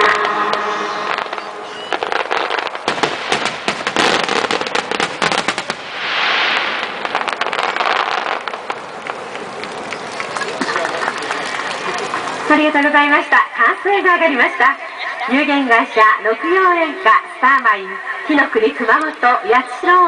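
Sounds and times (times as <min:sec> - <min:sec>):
fireworks bursting and crackling: 0:00.0 - 0:17.6.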